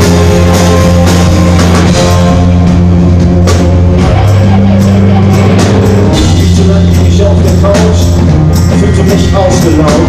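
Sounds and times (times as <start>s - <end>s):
drum kit: 0.0s - 10.0s
sustained low notes: 0.0s - 10.0s.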